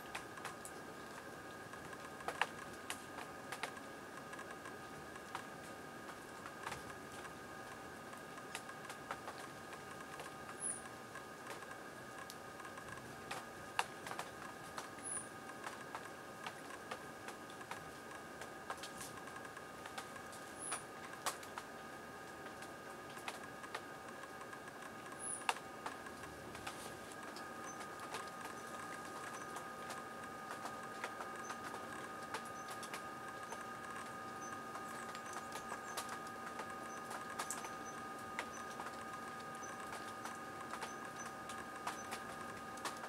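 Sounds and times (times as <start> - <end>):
steady tonal hum: 0.0 - 43.0.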